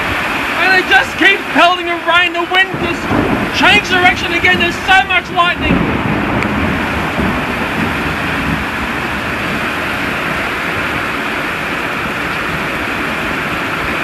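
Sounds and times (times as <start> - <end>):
heavy rain in strong wind: 0.0 - 14.0.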